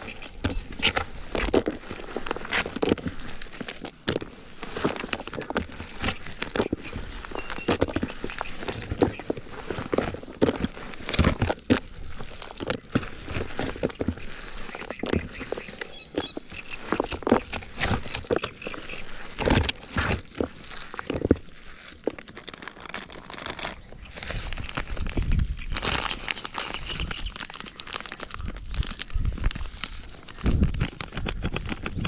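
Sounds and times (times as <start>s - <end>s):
fishing gear knocks and clicks: 0.0s - 32.0s
rustling: 0.0s - 32.0s.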